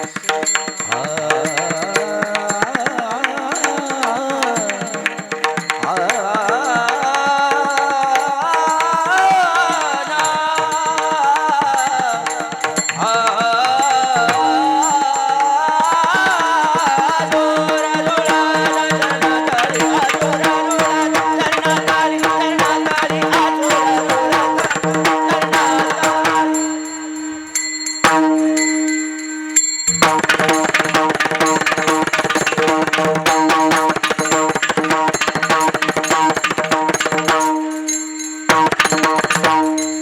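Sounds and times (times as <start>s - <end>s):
person singing a wavering melody: 0.0s - 40.0s.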